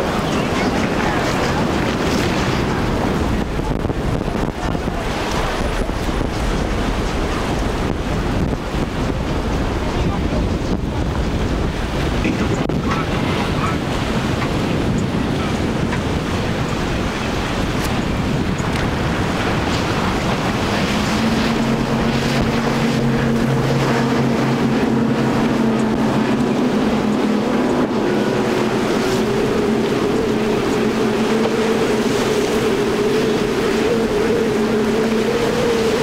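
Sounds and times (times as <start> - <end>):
outboard boat engines: 0.0 - 36.0
waves and spray: 0.0 - 36.0
wind on microphone: 0.0 - 36.0.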